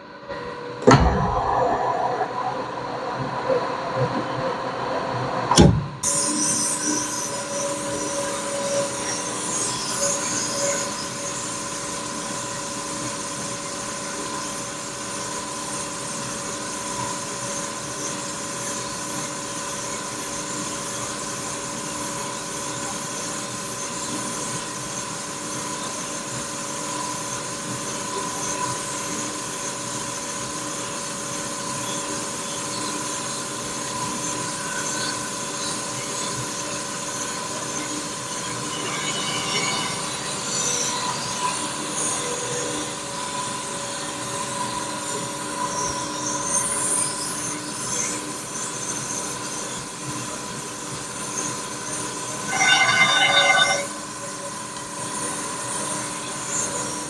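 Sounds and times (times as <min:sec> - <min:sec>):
grinding machine whine: 0:00.0 - 0:57.0.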